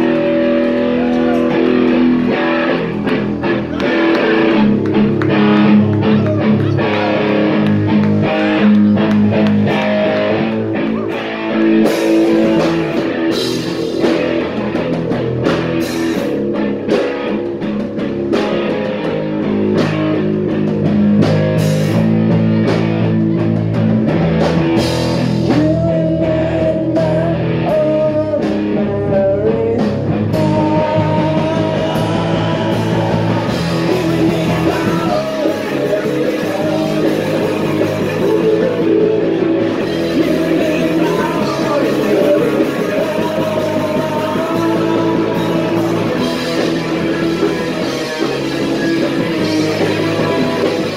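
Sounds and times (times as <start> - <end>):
punk rock band playing live: 0.0 - 50.9.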